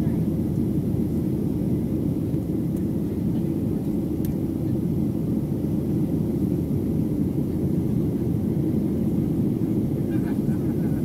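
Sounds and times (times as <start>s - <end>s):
jet engine drone: 0.0s - 11.0s.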